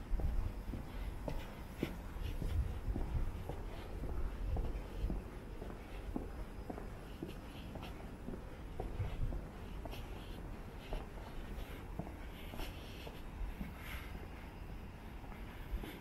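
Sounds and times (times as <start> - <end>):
footsteps on pavement: 0.0 - 16.0.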